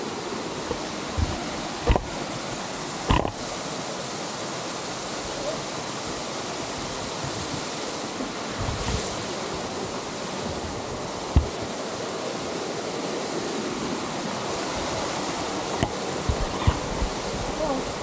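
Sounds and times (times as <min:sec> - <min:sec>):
small waterfall splashing: 0:00.0 - 0:18.0.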